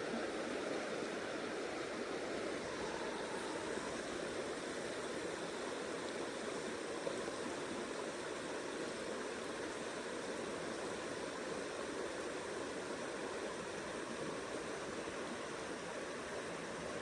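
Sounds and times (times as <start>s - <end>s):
stream running water: 0.0s - 17.0s.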